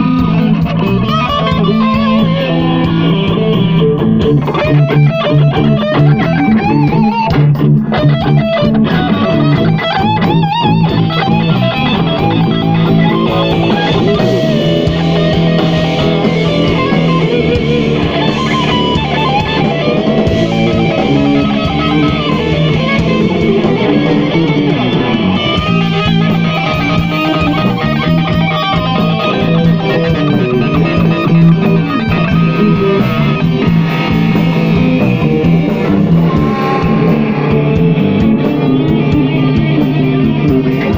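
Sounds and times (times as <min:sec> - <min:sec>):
live blues band playing: 0:00.0 - 0:40.9.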